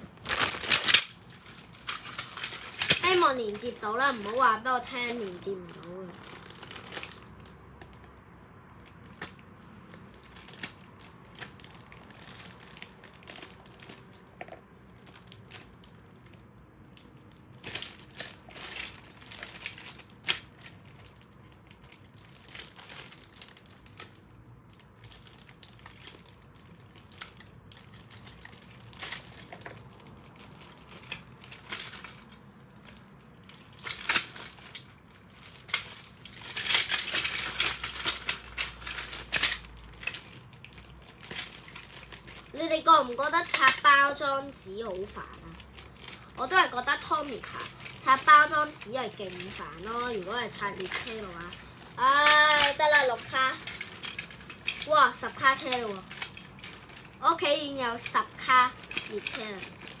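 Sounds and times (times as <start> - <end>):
packaging crinkling: 0.0 - 8.0, 8.8 - 60.0.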